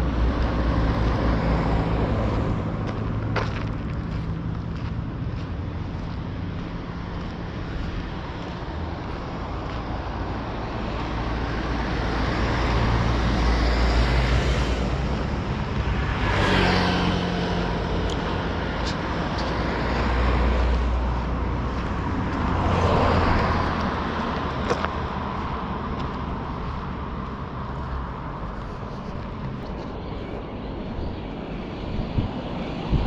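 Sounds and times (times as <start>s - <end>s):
cars passing: 0.0s - 33.0s
low traffic rumble: 0.0s - 33.0s.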